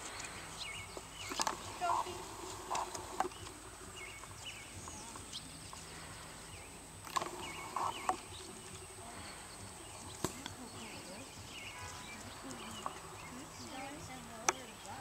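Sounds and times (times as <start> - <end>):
hooves on grass: 0.0 - 15.0.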